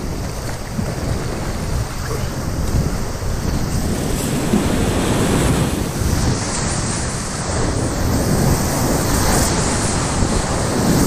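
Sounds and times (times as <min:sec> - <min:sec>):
water crashing on microphone: 0:00.0 - 0:11.0
whitewater rapids rushing: 0:00.0 - 0:11.0.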